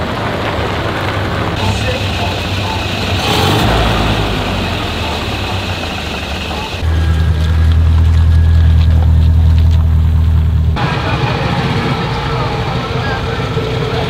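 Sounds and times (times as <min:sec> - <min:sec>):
engine idle hum: 0:00.0 - 0:14.0
old car engines running: 0:00.0 - 0:14.0.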